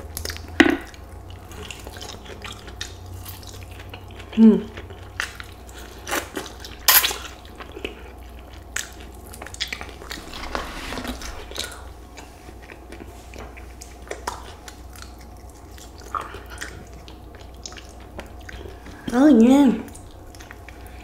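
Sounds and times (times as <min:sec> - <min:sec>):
crunchy chewing: 0:00.0 - 0:19.1, 0:19.9 - 0:21.0.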